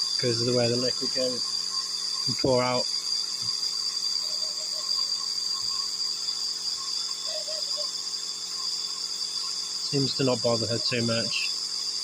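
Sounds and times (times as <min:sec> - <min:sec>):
nebuliser hissing and whining: 0:00.0 - 0:12.0.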